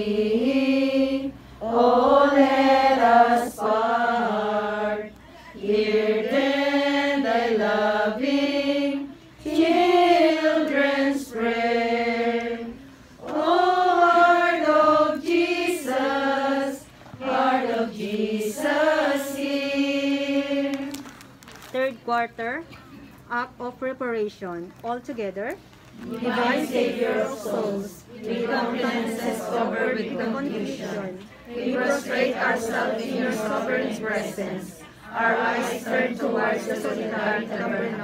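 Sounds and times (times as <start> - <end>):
group singing a hymn: 0.0 - 21.3, 26.0 - 38.0.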